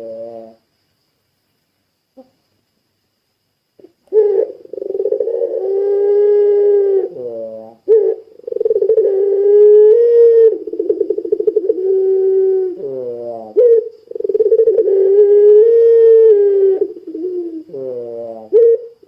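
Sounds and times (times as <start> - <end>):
dove cooing: 0.0 - 0.6, 3.8 - 19.0.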